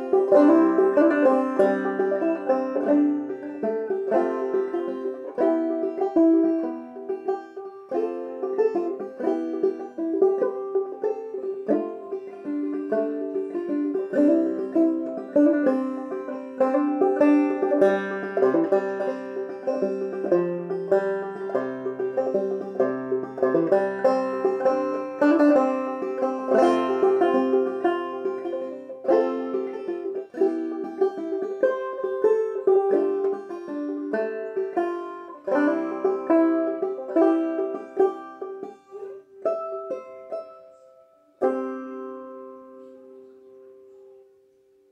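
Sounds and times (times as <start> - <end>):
banjo chord ringing: 0.0 - 44.2
banjo melody: 0.0 - 44.9.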